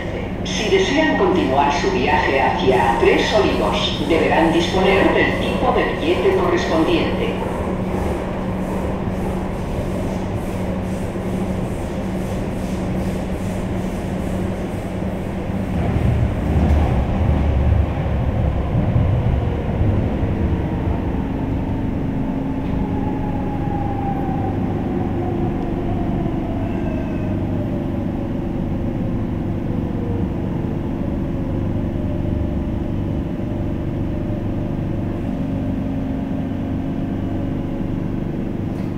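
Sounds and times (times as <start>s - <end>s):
train running: 0.0s - 38.9s.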